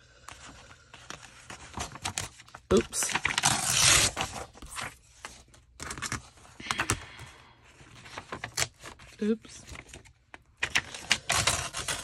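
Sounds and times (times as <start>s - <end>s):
paper rustling: 0.2s - 7.2s, 7.8s - 12.0s.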